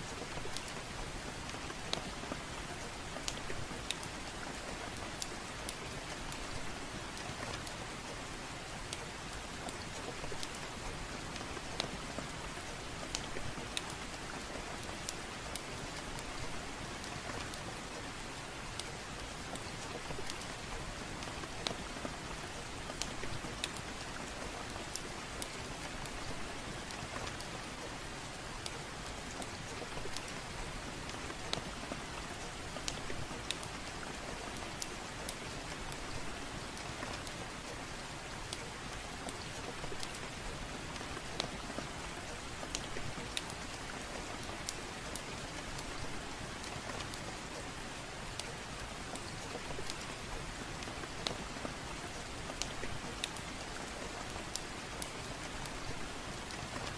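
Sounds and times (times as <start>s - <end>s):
soft rain falling: 0.0s - 56.9s.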